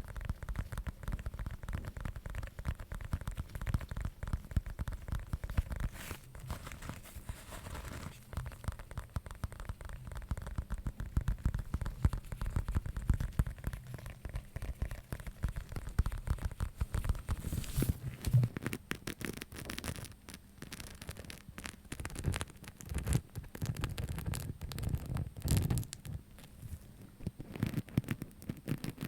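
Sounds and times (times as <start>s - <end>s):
fingers tapping and scratching: 0.0s - 17.6s, 18.2s - 26.2s, 27.0s - 29.0s
crinkly scratchy rustle: 0.0s - 29.0s.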